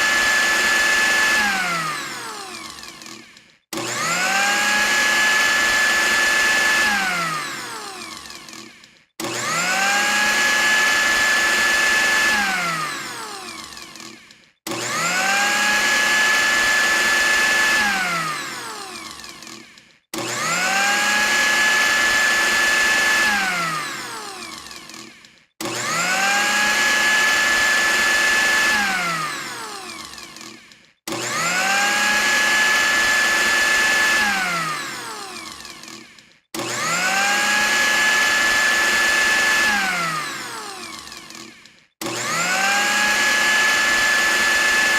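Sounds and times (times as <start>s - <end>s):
electric blender motor whine: 0.0s - 44.9s.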